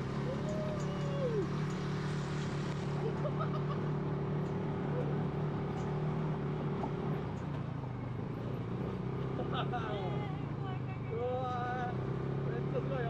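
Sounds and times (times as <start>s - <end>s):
buggy engine droning: 0.0s - 13.0s.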